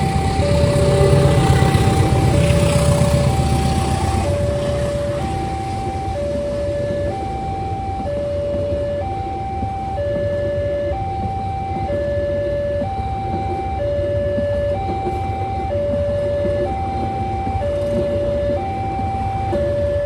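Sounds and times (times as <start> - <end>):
level crossing two-tone alarm: 0.0 - 20.0.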